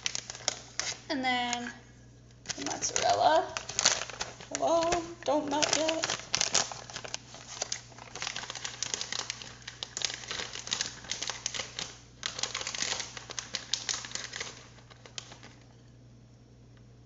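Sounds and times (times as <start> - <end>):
plastic bag crinkling: 0.0 - 1.8, 2.4 - 15.9.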